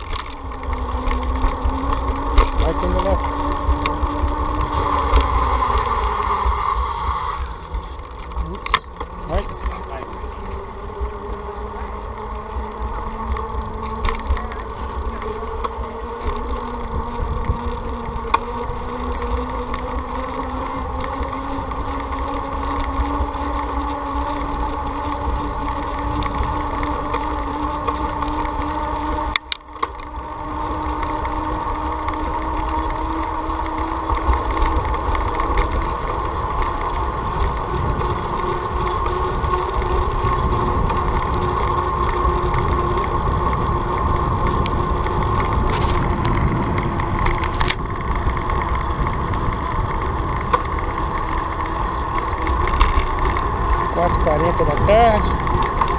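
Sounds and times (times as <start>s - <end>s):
motor hum rising in pitch: 0.0s - 55.9s
wind rumbling on microphone: 0.0s - 55.9s.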